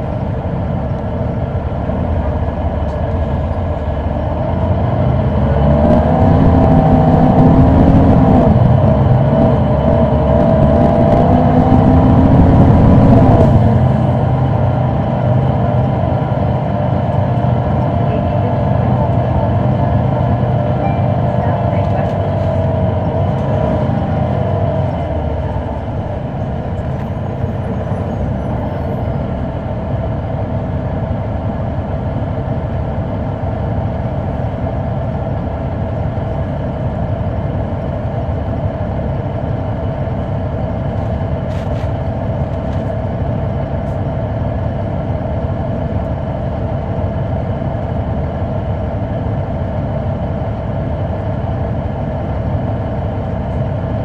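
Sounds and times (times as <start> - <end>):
bus diesel engine droning: 0.0 - 54.0
steady whine: 0.0 - 54.0.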